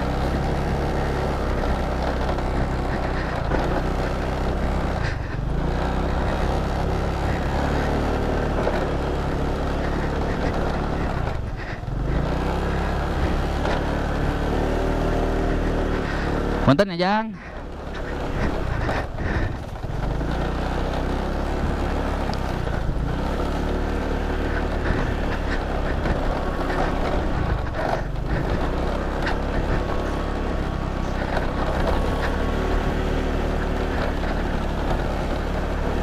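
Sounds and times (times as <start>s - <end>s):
rattles and knocks from bumps: 0.0s - 36.0s
small motorcycle engine running: 0.0s - 36.0s.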